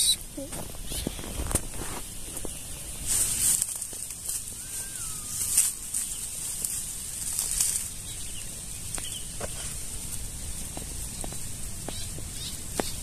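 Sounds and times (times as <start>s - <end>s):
shrub branches rustling: 0.0s - 13.0s
wind hiss and rumble: 0.0s - 13.0s
branches snapping: 2.4s - 13.0s.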